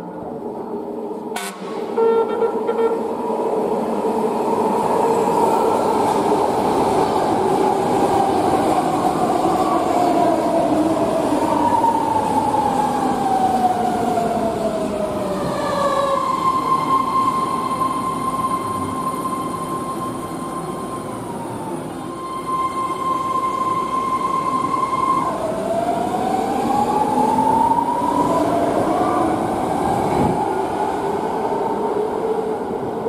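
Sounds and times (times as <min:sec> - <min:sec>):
electric train whine: 0:00.0 - 0:33.0.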